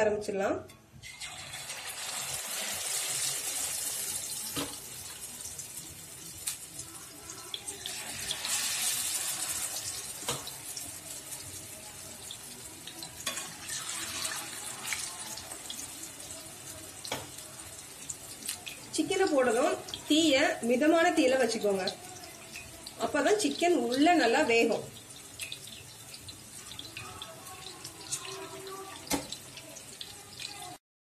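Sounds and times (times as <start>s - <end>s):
chicken deep-frying in oil: 1.0s - 30.8s.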